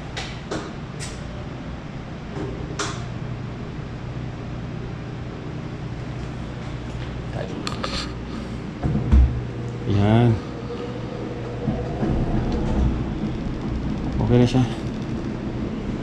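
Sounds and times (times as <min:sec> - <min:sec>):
washing machine motor humming: 0:00.8 - 0:16.0.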